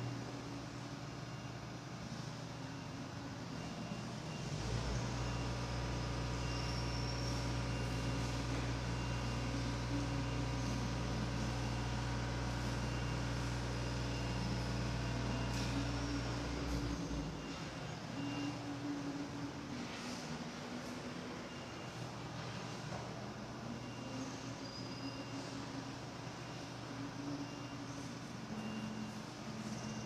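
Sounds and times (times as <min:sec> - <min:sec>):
faint steady tones: 0:00.0 - 0:30.0
low mechanical hum: 0:00.0 - 0:30.0.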